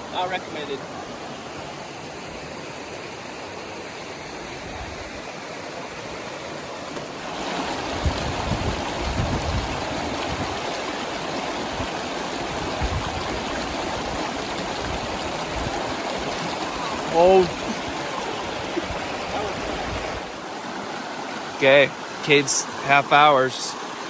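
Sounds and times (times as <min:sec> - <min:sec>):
creek water running: 0:00.0 - 0:24.0.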